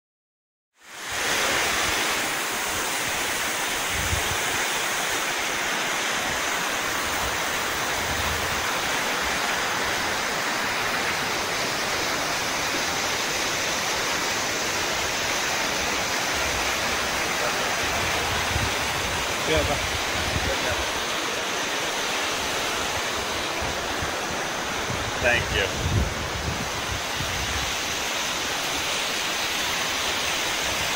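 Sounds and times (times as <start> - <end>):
waterfall rushing: 0.8 - 30.9.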